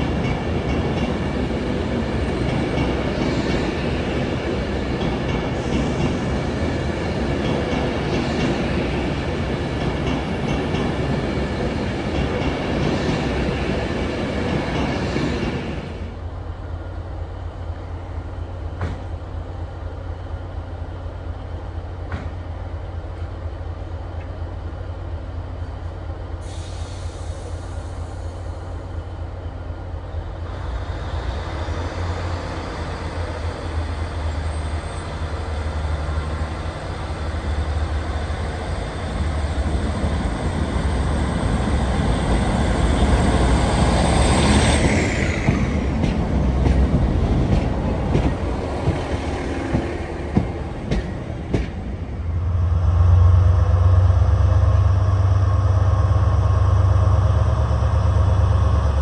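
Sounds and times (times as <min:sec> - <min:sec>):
train moving along track: 0:00.0 - 0:59.0.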